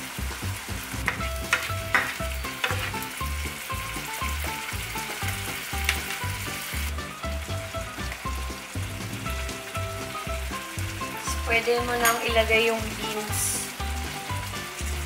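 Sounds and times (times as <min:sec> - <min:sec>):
background music with low beat: 0:00.0 - 0:15.0
meat and onion sizzling in pan: 0:00.0 - 0:15.0.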